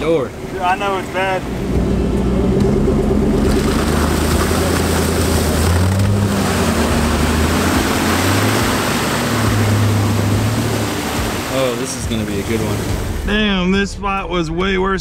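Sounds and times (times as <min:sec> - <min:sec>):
engine revving under heavy load: 0:00.0 - 0:13.2
tyres churning through mud: 0:00.0 - 0:13.2.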